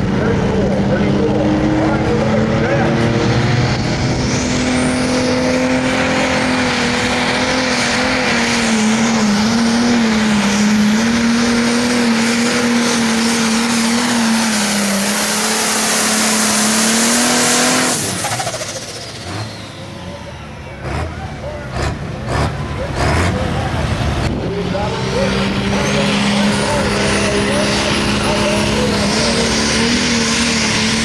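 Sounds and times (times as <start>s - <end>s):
diesel engine running under load: 0.0s - 31.0s.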